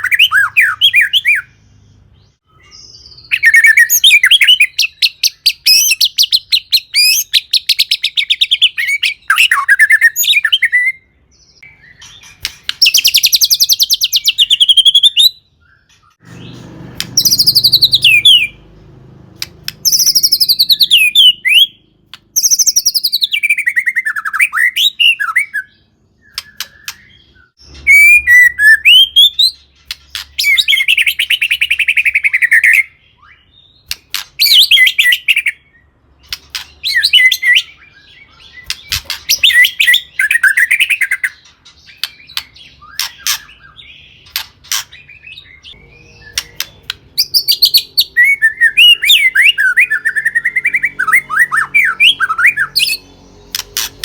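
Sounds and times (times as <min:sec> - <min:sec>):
bird singing varied phrases: 0:00.0 - 0:54.0.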